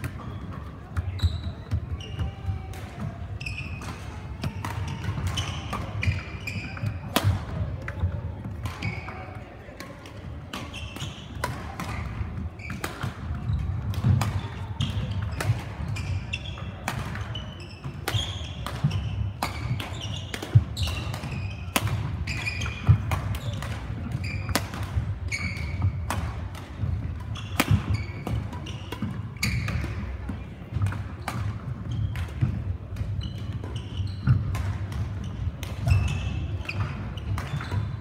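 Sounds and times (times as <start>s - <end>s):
shoes squeaking on floor: 0.0s - 2.7s, 3.3s - 7.1s, 8.8s - 9.4s, 10.6s - 13.8s, 14.4s - 24.6s, 25.2s - 26.1s, 27.3s - 30.2s, 31.2s - 32.4s, 33.0s - 38.0s
rackets striking shuttlecocks: 0.0s - 38.0s.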